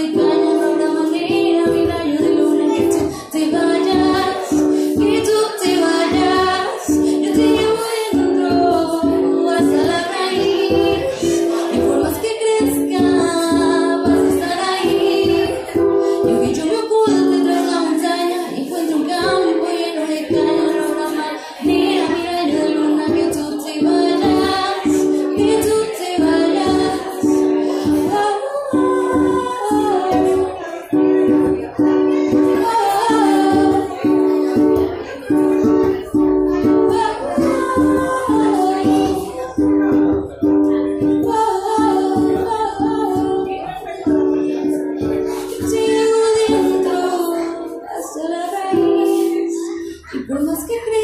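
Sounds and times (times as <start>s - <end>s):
woman singing a ballad: 0.0s - 30.8s, 32.4s - 34.1s, 36.9s - 39.5s, 40.7s - 43.7s, 45.3s - 51.0s
strummed ukulele: 0.0s - 51.0s.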